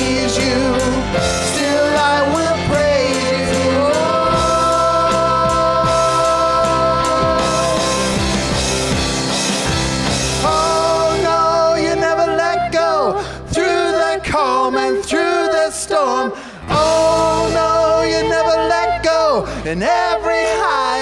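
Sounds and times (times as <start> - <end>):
band on guitars and keyboard: 0.0 - 21.0
singers holding long notes: 0.0 - 21.0.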